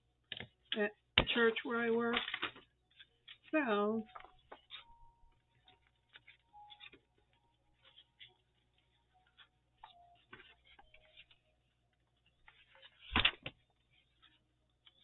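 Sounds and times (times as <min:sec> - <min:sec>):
paper rustling: 0:02.1 - 0:15.0.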